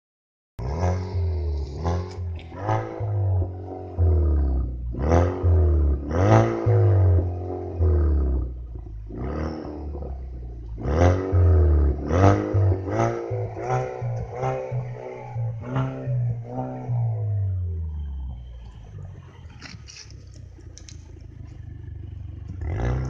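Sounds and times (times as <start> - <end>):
car engine revving: 0.6 - 23.0.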